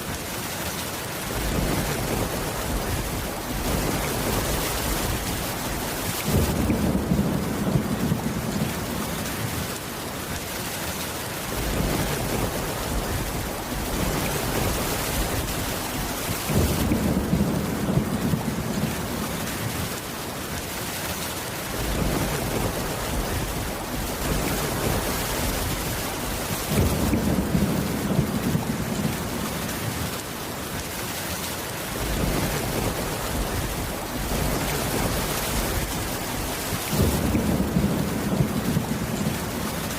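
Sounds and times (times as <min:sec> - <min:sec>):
heavy rain: 0:00.0 - 0:39.9
low thunder rumbles: 0:01.3 - 0:09.7, 0:11.5 - 0:19.9, 0:21.7 - 0:30.2, 0:31.9 - 0:39.9.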